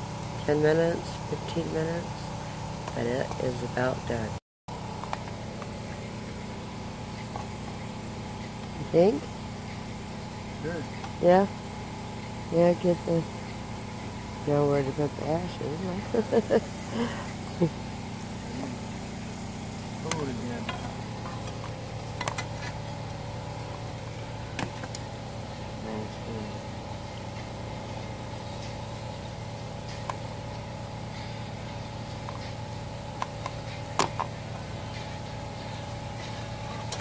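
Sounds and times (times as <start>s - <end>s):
engine humming: 0.0s - 37.0s
campfire popping: 4.7s - 37.0s.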